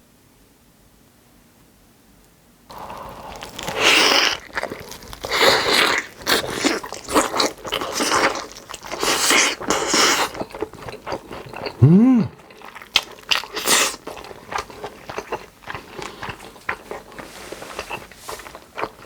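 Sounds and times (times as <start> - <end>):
person chewing crunchy food: 2.7 - 19.0.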